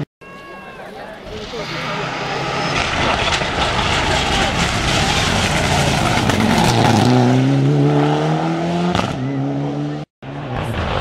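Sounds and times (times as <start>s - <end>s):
rally car engine accelerating: 2.0s - 11.0s.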